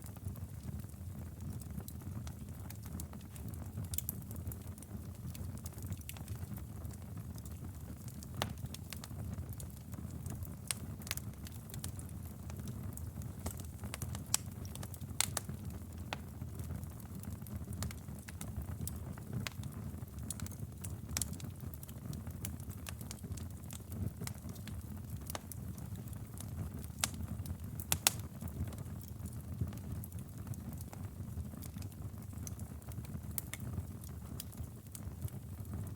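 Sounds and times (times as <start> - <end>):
fireplace fire crackling: 0.0 - 35.9.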